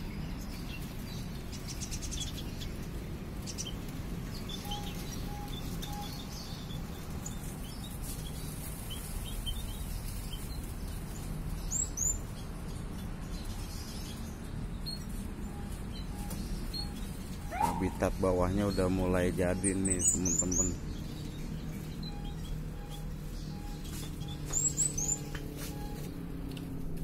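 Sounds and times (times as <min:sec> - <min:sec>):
finches chirping: 0:00.0 - 0:26.1
sweeping bird calls: 0:00.0 - 0:26.3.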